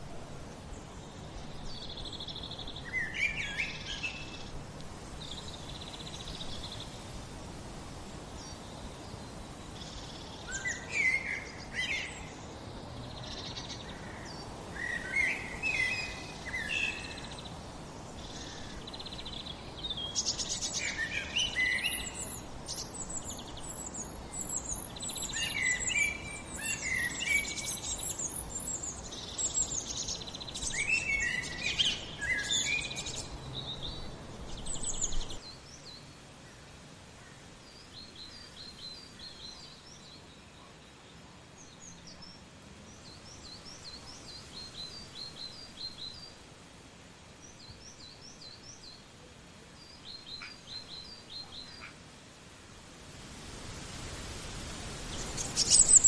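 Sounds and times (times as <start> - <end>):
songbirds singing: 0.0 - 52.6, 54.7 - 56.0.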